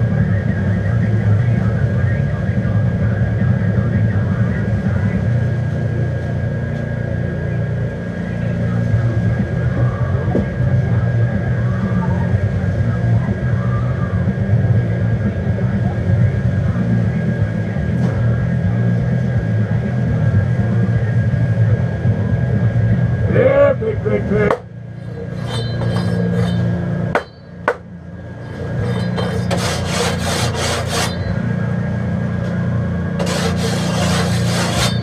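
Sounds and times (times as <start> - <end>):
loud low rumble: 0.0 - 29.7
high whine: 0.0 - 35.0.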